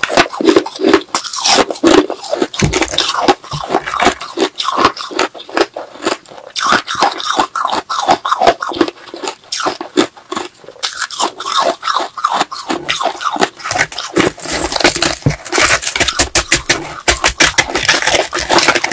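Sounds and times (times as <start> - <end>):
ice being chewed: 0.0 - 18.9.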